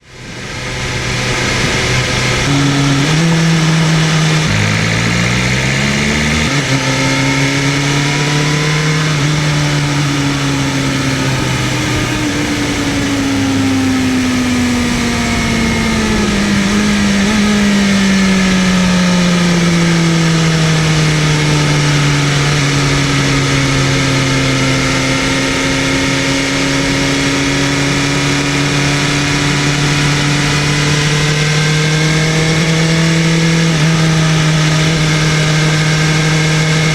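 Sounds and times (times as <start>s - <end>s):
motorcycle engine revving: 0.0s - 36.9s
wind and road rush: 0.0s - 36.9s.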